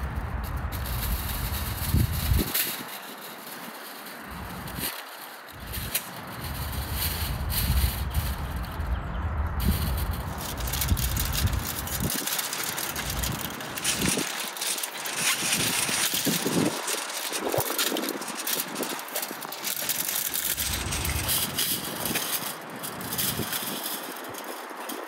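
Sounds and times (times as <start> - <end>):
onion skins crackling and rustling: 0.0 - 25.0.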